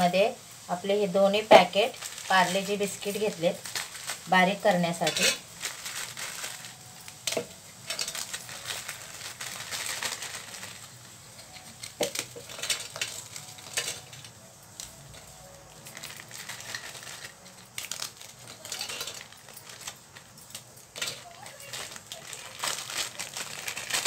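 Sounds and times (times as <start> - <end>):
biscuits snapping and crackling: 1.9 - 4.3, 5.1 - 24.0.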